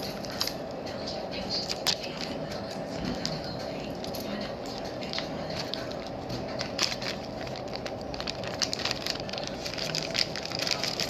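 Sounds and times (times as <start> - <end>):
steady background hum: 0.0 - 11.0
jewellery packaging clicks and crackling: 1.6 - 11.0.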